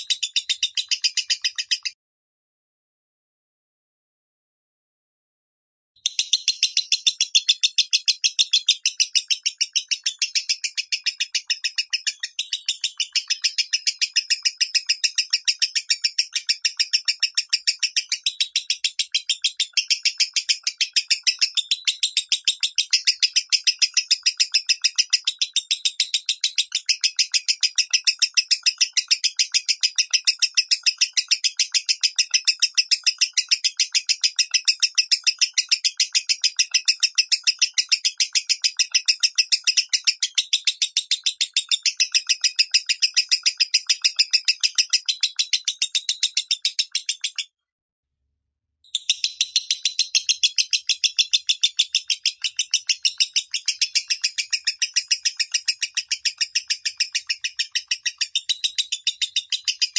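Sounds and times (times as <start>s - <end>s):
lovebird rapid chirping: 0.0s - 2.0s, 6.0s - 47.5s, 48.9s - 59.9s.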